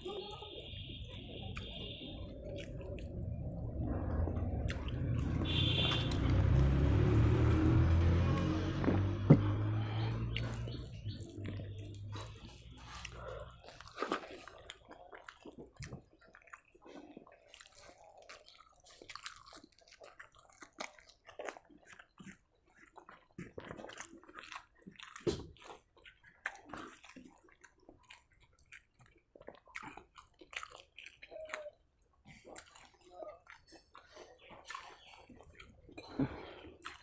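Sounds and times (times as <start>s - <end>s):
person chewing food: 0.0s - 37.0s.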